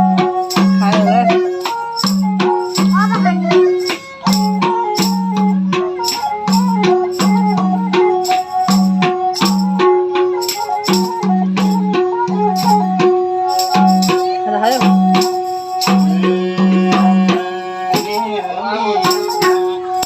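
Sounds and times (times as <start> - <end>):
bowed sarangi melody: 0.0 - 20.0
madal drum beat: 0.0 - 20.0.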